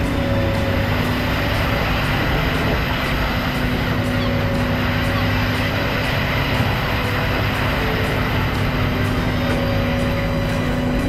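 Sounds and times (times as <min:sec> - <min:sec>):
boat engine and machinery hum: 0:00.0 - 0:11.0.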